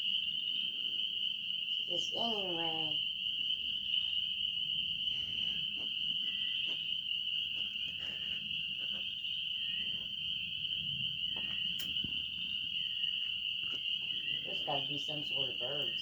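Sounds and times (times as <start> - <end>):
chorus of peeping frogs: 0.0 - 16.0.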